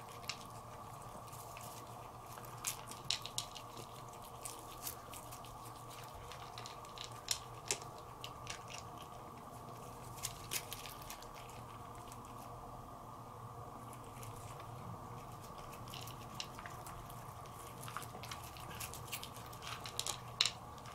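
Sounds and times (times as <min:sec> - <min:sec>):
cat eating wet food: 0:00.0 - 0:12.8, 0:13.5 - 0:20.9
steady low hum: 0:00.0 - 0:20.9.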